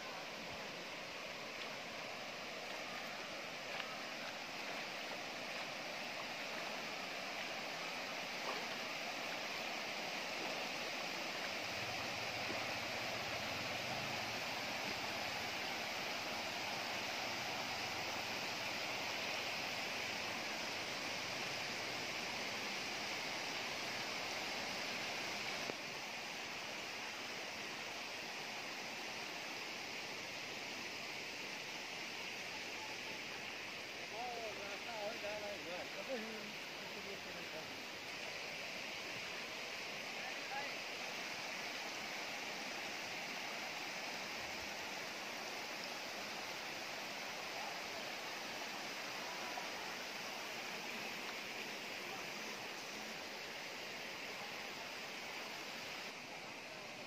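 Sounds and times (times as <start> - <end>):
floodwater rushing: 0.0 - 30.6, 31.2 - 57.0.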